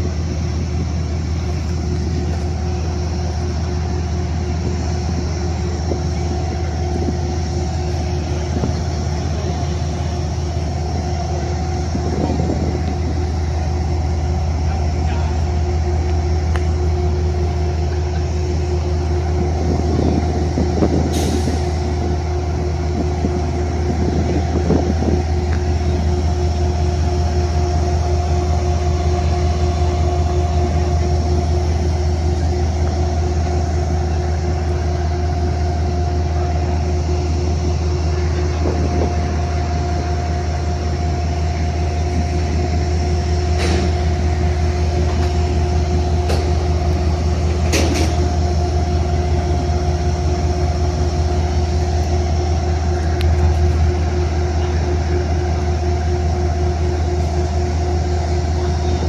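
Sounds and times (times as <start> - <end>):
diesel train idling: 0.0 - 59.0.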